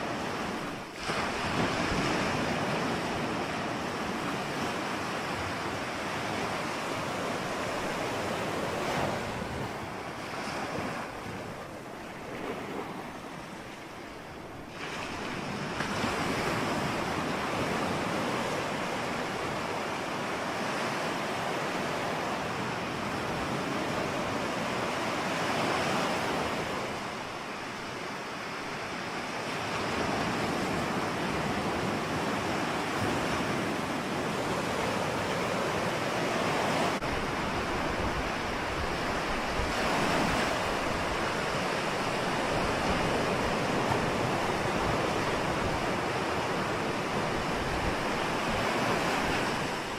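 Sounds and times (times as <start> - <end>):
ocean waves breaking on shore: 0.0 - 49.9
wind rumble on microphone: 0.0 - 49.9.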